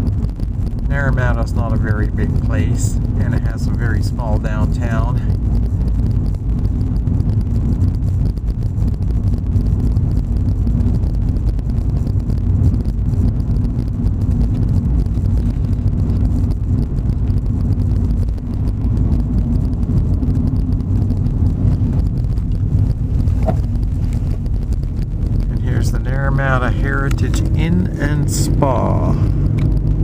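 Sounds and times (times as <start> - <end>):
motorhome engine and road rumble: 0.0 - 30.0.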